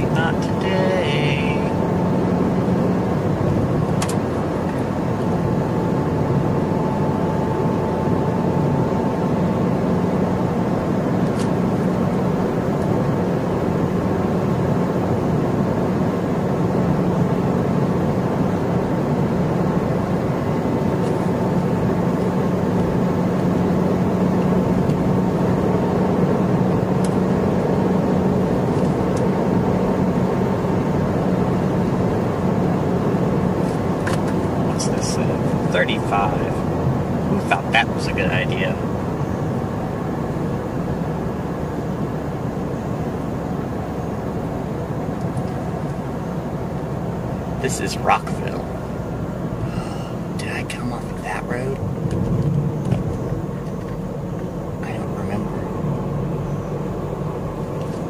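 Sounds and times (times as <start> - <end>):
car engine hum: 0.0 - 58.0
tyre and road noise: 0.0 - 58.0.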